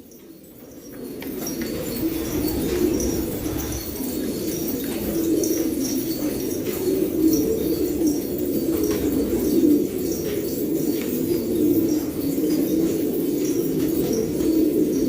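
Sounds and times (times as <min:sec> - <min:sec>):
pigeons cooing: 0:01.0 - 0:15.0.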